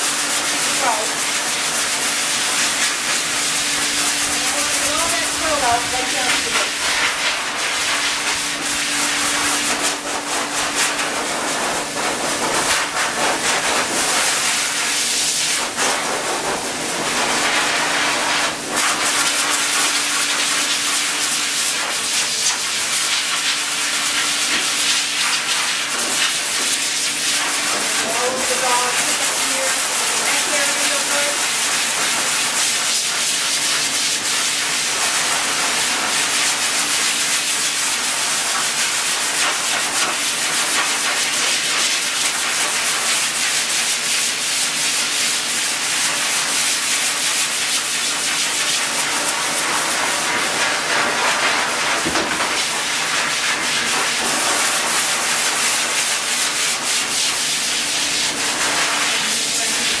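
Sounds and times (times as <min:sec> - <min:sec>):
pet dryer blowing air: 0:00.0 - 1:00.0.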